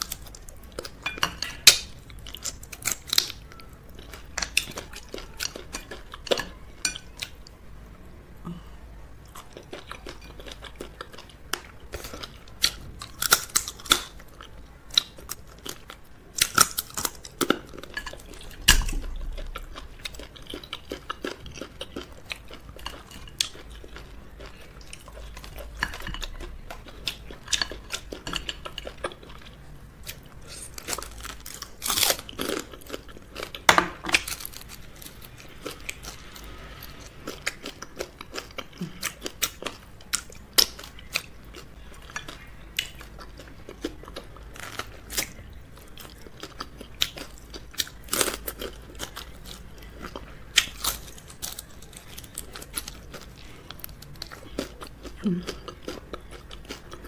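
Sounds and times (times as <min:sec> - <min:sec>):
person chewing and biting: 0:09.2 - 0:57.0.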